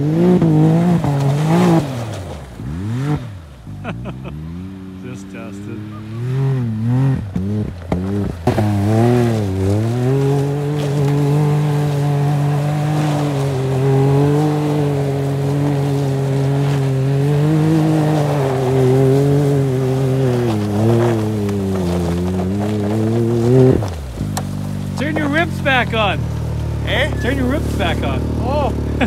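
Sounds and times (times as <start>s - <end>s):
engine revving at high revs: 0.0s - 29.0s.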